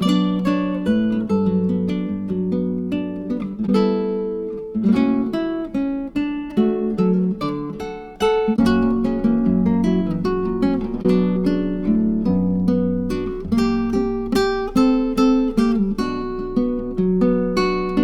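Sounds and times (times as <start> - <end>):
acoustic guitar plucked and strummed: 0.0 - 18.0.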